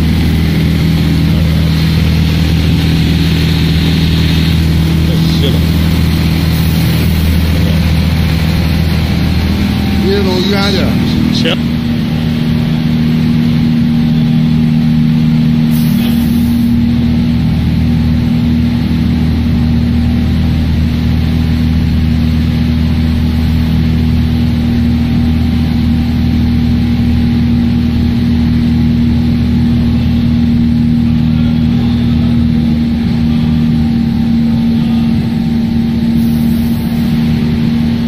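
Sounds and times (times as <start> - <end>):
low rumble: 0.0 - 38.0
machine hum: 0.0 - 38.0.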